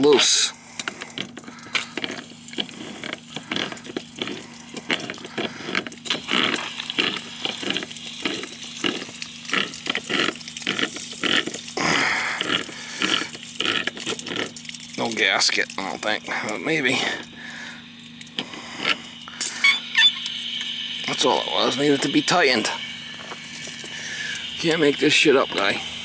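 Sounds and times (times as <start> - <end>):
water spraying and splashing: 0.0 - 26.0.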